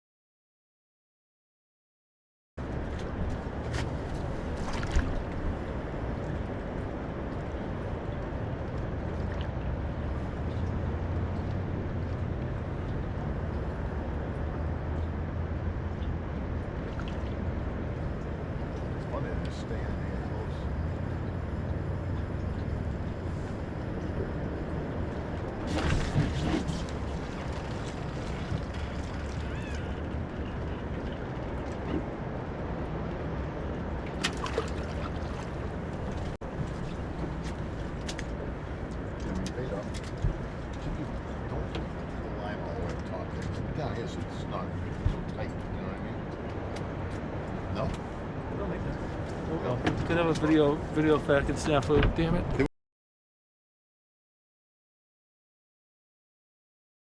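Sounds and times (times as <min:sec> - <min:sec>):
boat motor droning: 0:02.6 - 0:52.6
wind and water noise: 0:02.6 - 0:52.7.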